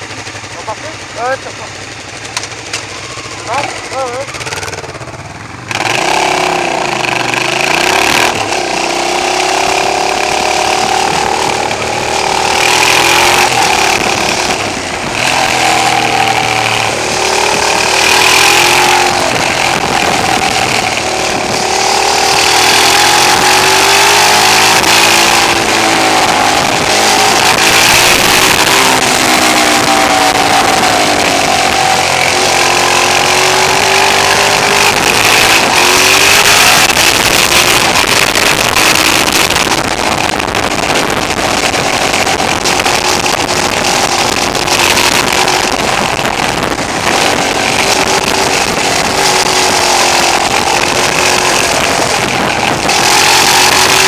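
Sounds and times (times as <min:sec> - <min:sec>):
heavy wind rush: 0:00.0 - 0:54.0
motorcycle engine revving: 0:00.0 - 0:54.0.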